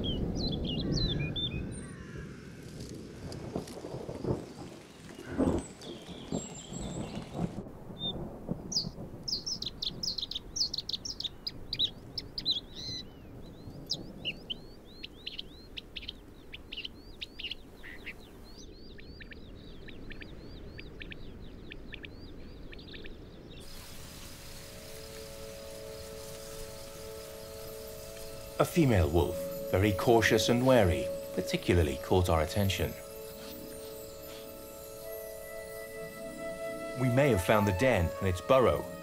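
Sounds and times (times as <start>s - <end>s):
birds chirping and whistling: 0.0s - 1.9s, 5.4s - 39.0s.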